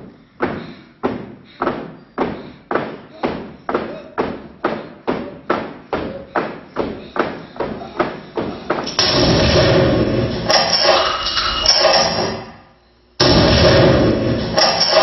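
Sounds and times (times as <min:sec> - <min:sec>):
heavy thuds echoing in hall: 0:00.0 - 0:12.6, 0:13.2 - 0:15.0.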